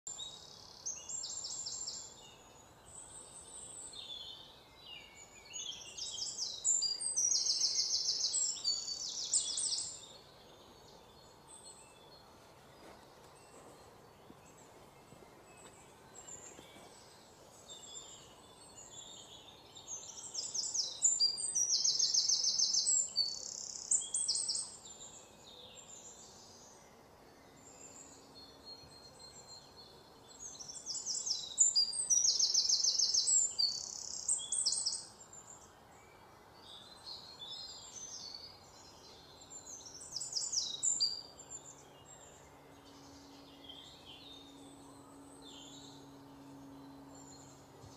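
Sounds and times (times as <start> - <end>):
faint outdoor background: 0.0 - 47.9
songbird singing: 0.0 - 47.9.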